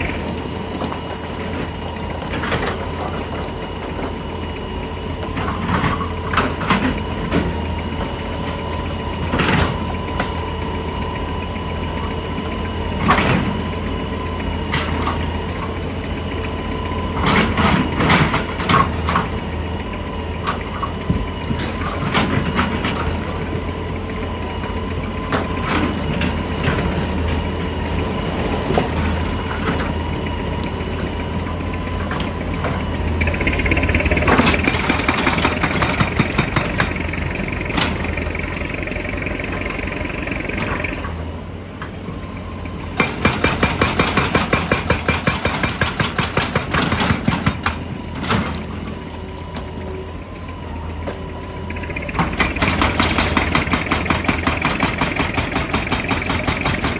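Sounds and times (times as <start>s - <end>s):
excavator diesel engine running: 0.0s - 56.9s
high hydraulic whine: 0.0s - 56.9s
hydraulic rock breaker hammering: 0.0s - 56.9s.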